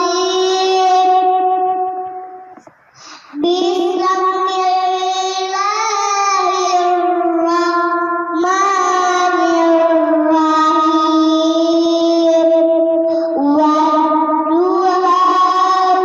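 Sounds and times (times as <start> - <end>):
girl singing long notes: 0.0 - 16.0.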